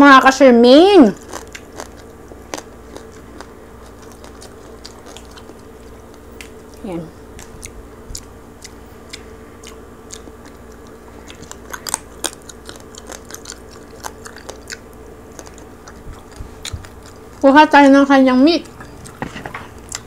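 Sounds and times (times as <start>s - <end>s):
steady low hum: 0.0s - 20.0s
chewing crispy skin: 0.8s - 20.0s.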